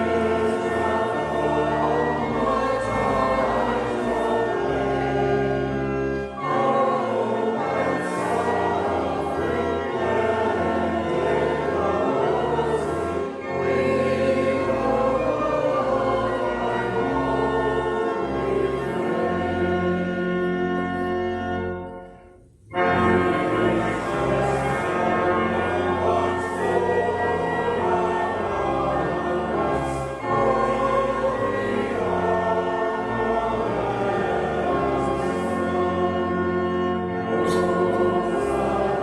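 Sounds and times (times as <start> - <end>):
choir singing a hymn: 0.0 - 39.0
organ chords: 0.0 - 39.0.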